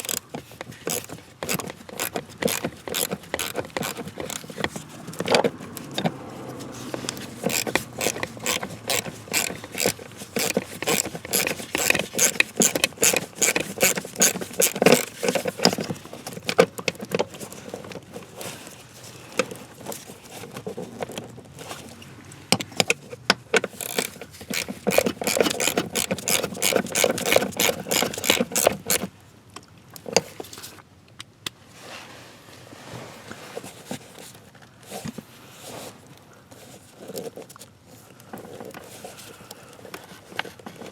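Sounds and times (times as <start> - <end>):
hand tools clicking and scraping: 0.0 - 29.1, 33.4 - 40.9.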